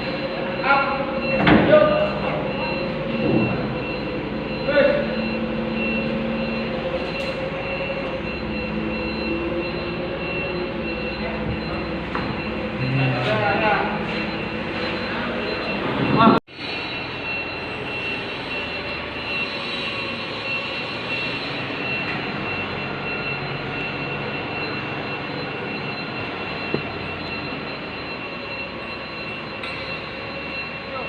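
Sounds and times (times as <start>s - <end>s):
machinery running: 0.0s - 31.0s.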